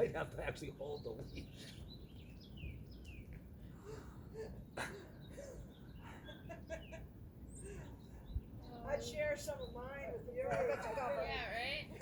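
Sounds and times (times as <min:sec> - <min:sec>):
faint bird chirps: 0:00.8 - 0:11.5.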